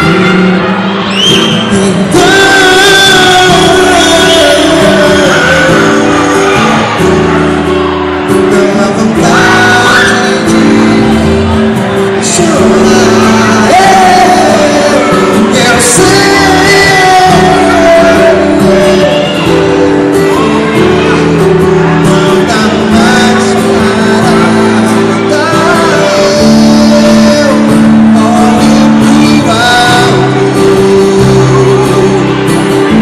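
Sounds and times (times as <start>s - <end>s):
live band music: 0.0s - 33.0s
man singing loudly: 0.0s - 33.0s.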